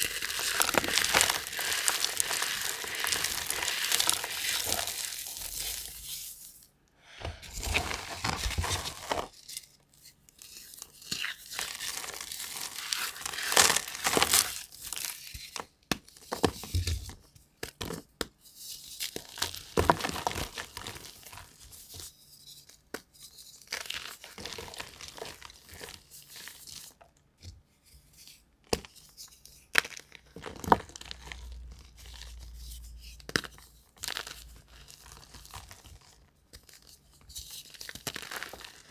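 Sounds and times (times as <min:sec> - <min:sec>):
chalk crunching and crumbling: 0:00.0 - 0:06.7, 0:07.3 - 0:16.8, 0:17.9 - 0:27.0, 0:27.8 - 0:38.9.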